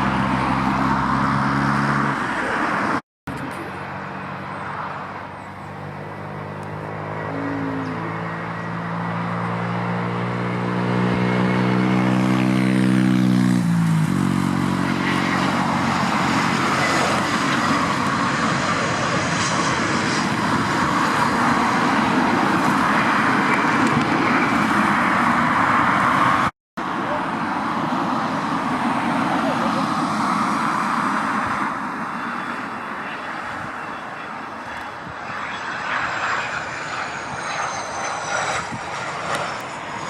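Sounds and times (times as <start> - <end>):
jet airliner passing overhead: 0.0 - 40.0.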